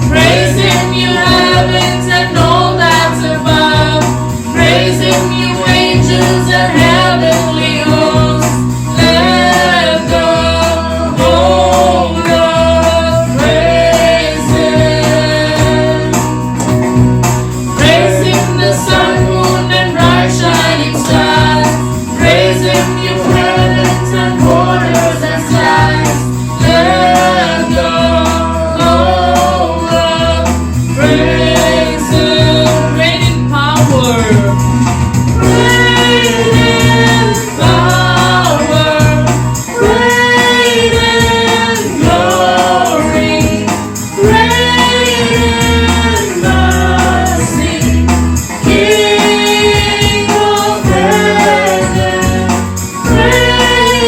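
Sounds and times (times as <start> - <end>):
people singing: 0.0 - 34.6, 35.3 - 54.0
bass line: 0.0 - 54.0
percussion beat: 0.0 - 54.0.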